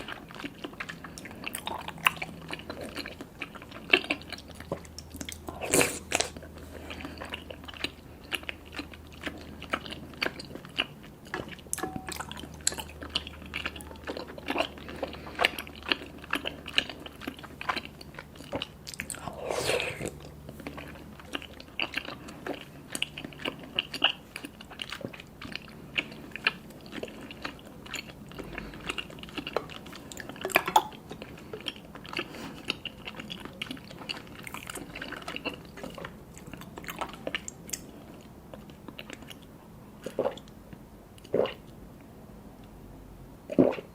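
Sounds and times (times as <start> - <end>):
chewing with wet mouth clicks: 0.0 - 19.4, 20.0 - 42.8.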